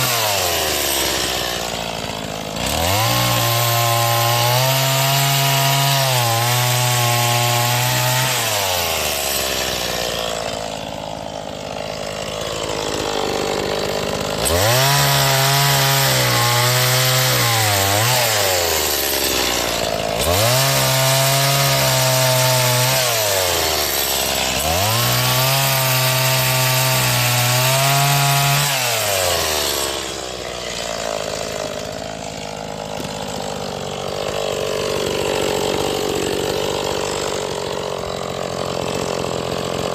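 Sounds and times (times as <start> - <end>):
chainsaw revving cutting wood: 0.0 - 39.9.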